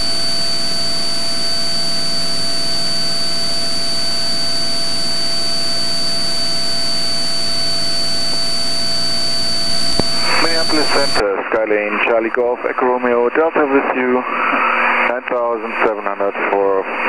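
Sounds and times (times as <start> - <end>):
aircraft engine drone in cockpit: 0.0 - 11.2, 13.6 - 17.0
high steady whine: 0.0 - 17.0.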